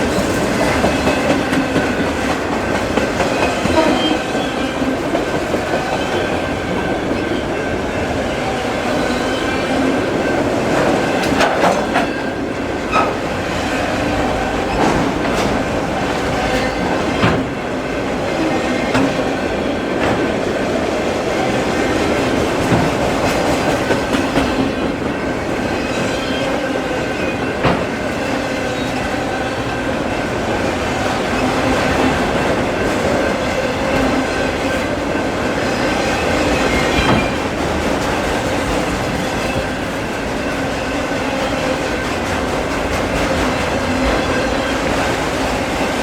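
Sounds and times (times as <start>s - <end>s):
clacks over rail joints: 0.0s - 8.2s, 9.0s - 46.0s
train wheels rumbling on rail: 0.0s - 46.0s.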